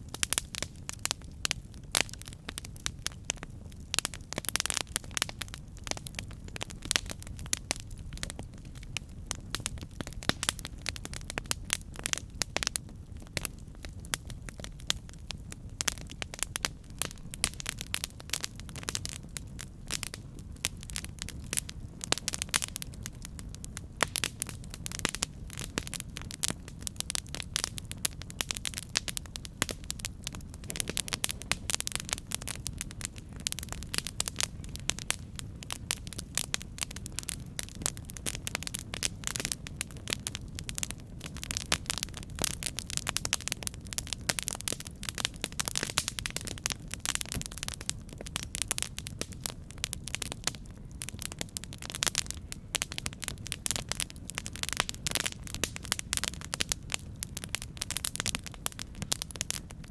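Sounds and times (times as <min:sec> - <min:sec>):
campfire crackling and popping: 0:00.0 - 0:59.9
low fire rumble: 0:00.0 - 0:59.9.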